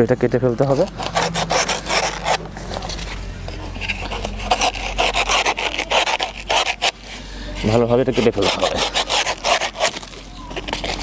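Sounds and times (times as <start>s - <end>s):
blade sawing plant stem: 0.6s - 11.0s.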